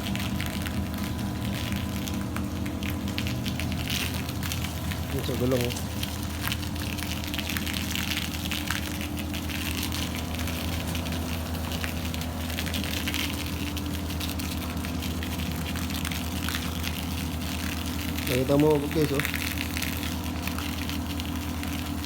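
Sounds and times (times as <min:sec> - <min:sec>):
foam spraying with fizzing hiss: 0:00.0 - 0:22.0
pump humming: 0:00.0 - 0:22.0.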